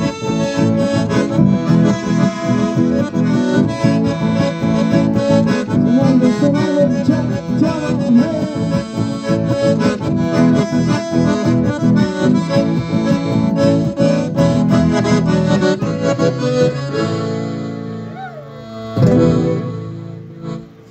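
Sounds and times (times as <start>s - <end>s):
acoustic guitar: 0.0s - 20.9s
button accordions playing: 0.0s - 20.9s.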